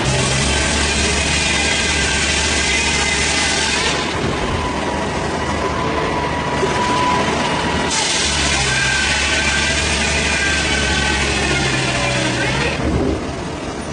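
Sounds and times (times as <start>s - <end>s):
wood-cutting machinery running: 0.0s - 13.9s.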